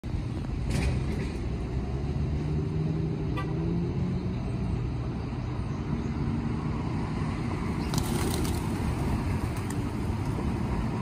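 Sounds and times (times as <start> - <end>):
street traffic rumble: 0.0 - 11.0
vehicle engine hum: 0.0 - 11.0.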